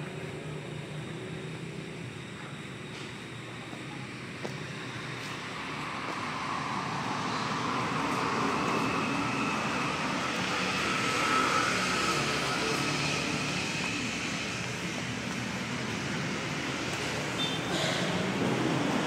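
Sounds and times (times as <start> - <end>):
mechanical drone with whine: 0.0 - 19.0.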